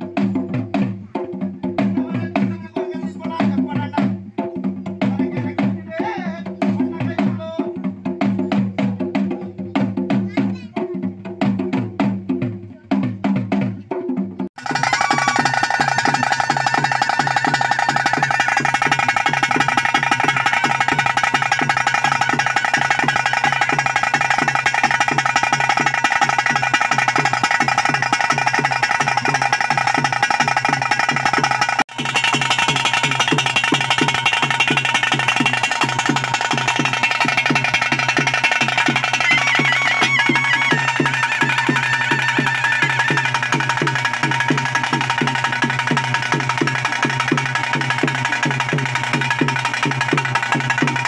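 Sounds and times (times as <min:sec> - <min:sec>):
drum ensemble playing: 0:00.0 - 0:51.0.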